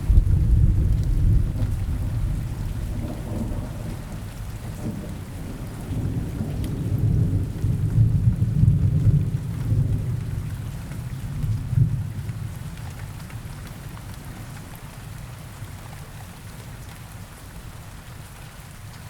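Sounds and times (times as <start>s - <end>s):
low rumble of thunder: 0.0s - 15.6s
rain falling through forest: 0.0s - 19.0s.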